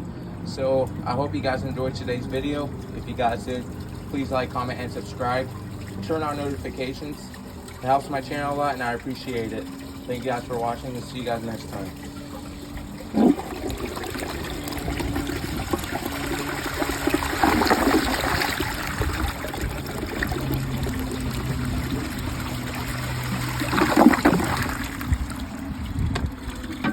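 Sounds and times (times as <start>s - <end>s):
fill valve hum: 0.0s - 26.9s
toilet tank water running: 0.5s - 26.9s.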